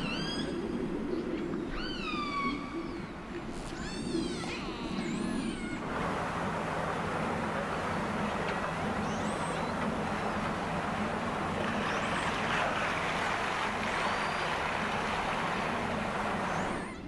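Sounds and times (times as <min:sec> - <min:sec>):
killer whale squealing calls: 0:00.0 - 0:17.0.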